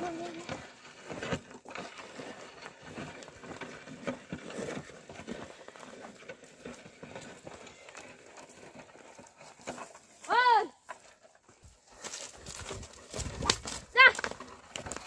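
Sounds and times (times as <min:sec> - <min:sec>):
soft hoof steps and scuffs: 0:00.4 - 0:15.0.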